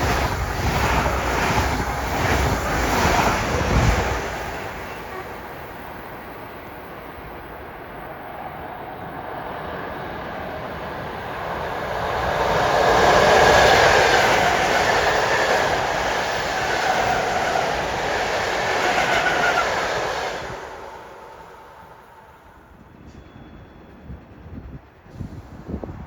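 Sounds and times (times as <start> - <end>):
train passing on rails: 0.0 - 26.0.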